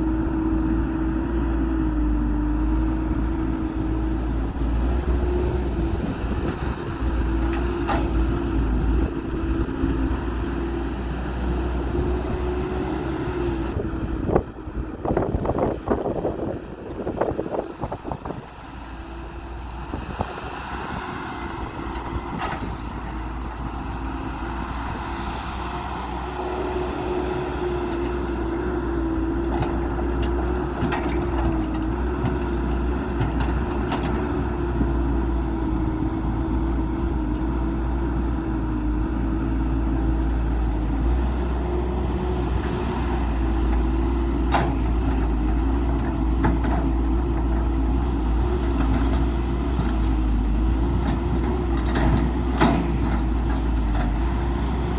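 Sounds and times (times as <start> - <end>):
diesel engine humming: 0.0 - 54.9.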